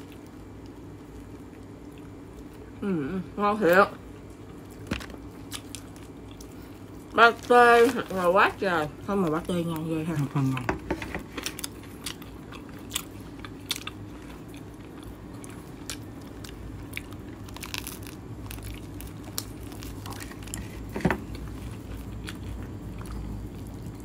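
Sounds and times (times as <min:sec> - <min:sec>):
person chewing crusty bread: 0:00.0 - 0:02.9, 0:04.0 - 0:08.3, 0:09.1 - 0:24.0.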